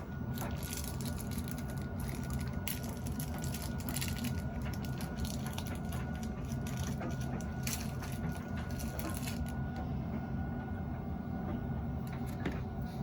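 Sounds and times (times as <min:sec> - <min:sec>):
faint steady whine: 0:00.0 - 0:13.0
tumble dryer humming: 0:00.0 - 0:13.0.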